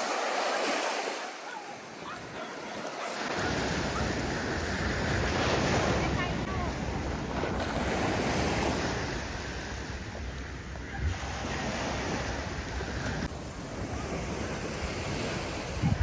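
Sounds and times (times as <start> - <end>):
sea waves washing on shore: 0.0 - 16.0
wind buffeting the microphone: 1.9 - 16.0.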